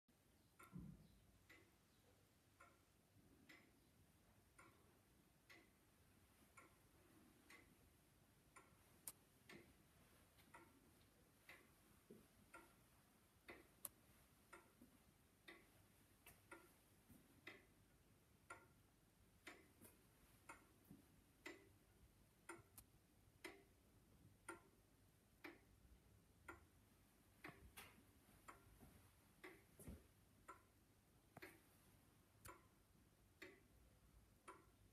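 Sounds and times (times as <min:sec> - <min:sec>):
pendulum clock ticking: 0:00.1 - 0:34.9.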